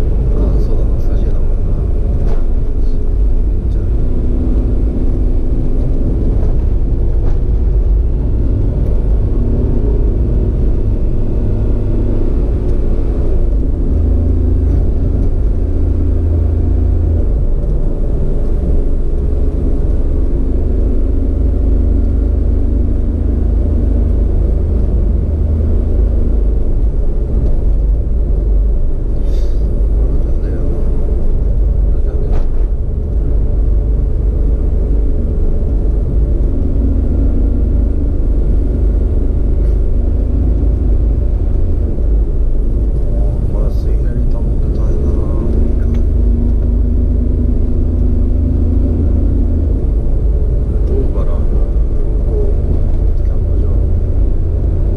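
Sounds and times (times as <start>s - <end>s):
vehicle engine running: 0.0s - 54.9s
wind and road rumble: 0.0s - 54.9s.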